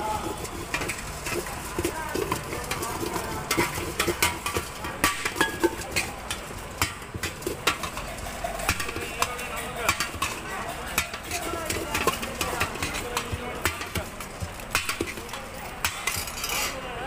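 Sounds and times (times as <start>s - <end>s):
voices chattering: 0.0s - 17.0s.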